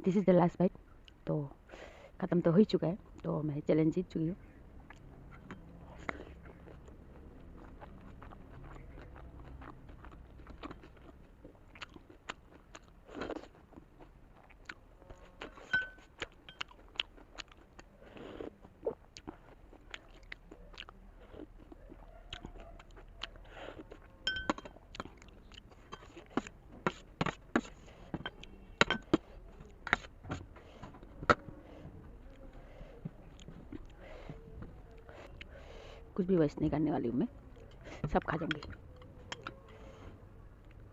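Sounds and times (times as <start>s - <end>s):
person chewing: 4.8s - 35.8s, 37.4s - 40.9s.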